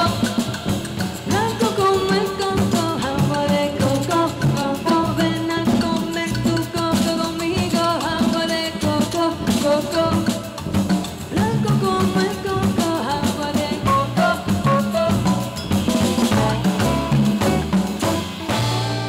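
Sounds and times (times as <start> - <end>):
woman singing: 0.0 - 17.1
drum kit: 0.0 - 19.0
hand percussion: 0.0 - 19.0.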